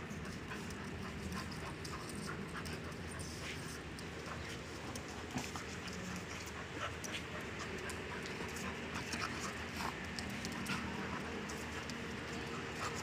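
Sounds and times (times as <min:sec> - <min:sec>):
dogs panting: 0:00.0 - 0:13.0
dogs scuffling on concrete: 0:00.0 - 0:13.0.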